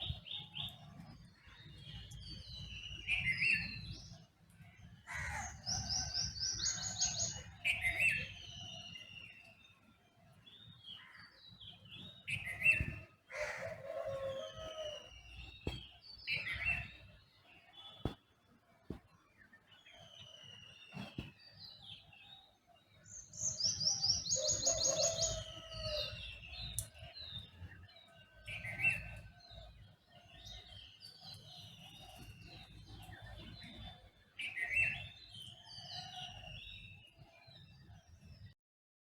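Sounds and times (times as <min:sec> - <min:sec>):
songbirds singing: 0:00.0 - 0:38.6.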